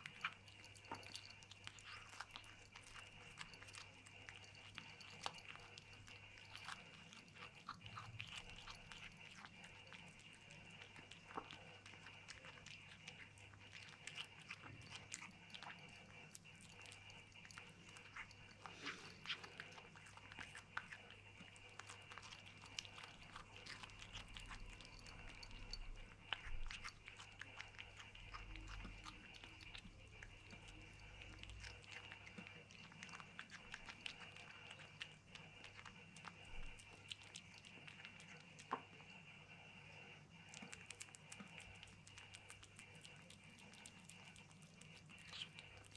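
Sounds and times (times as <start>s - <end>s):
kitten chewing and licking: 0.0s - 45.9s.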